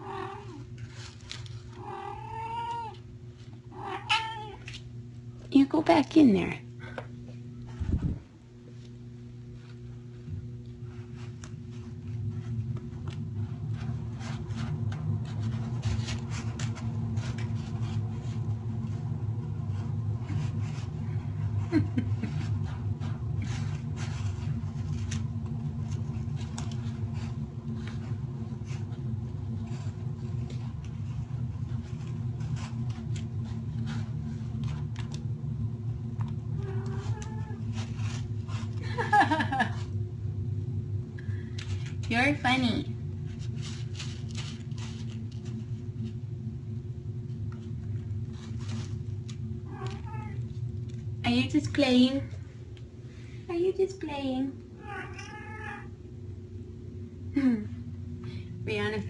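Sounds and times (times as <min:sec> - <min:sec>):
kitten scratching litter: 0:00.0 - 0:06.2, 0:07.6 - 0:40.0, 0:41.2 - 0:46.5, 0:47.2 - 0:53.4.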